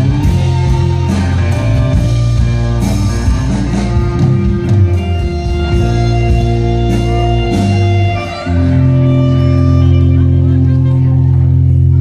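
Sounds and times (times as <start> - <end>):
live band guitar instrumental: 0.0 - 12.0.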